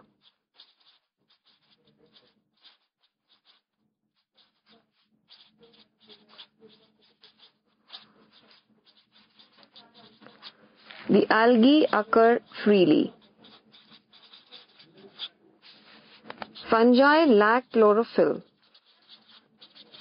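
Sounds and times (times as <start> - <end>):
marker pen writing on whiteboard: 0.0 - 20.0.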